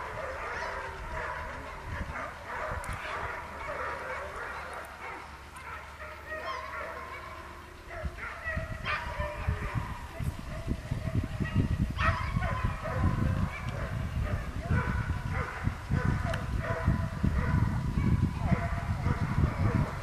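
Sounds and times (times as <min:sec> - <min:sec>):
dogs yelping and barking: 0:00.0 - 0:20.0.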